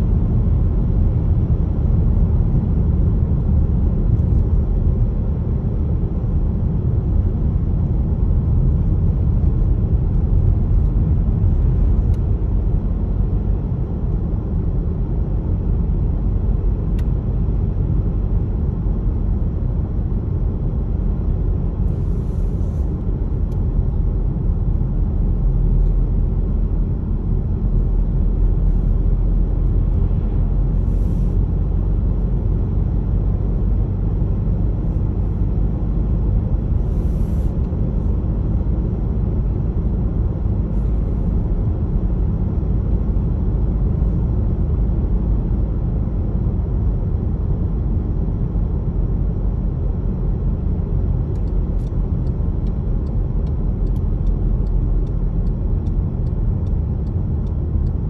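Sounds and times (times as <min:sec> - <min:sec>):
car driving rumble inside cabin: 0:00.0 - 0:58.0.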